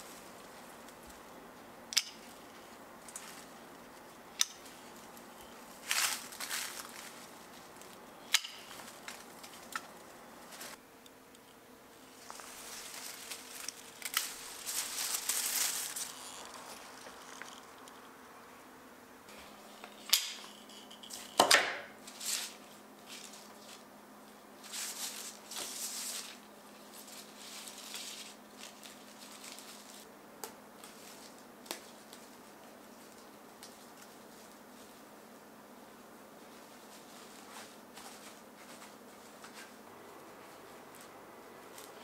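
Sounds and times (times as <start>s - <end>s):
branches rustling against paper: 0.0s - 10.8s, 12.0s - 18.2s, 19.7s - 42.0s
faint steady hum: 0.0s - 42.0s.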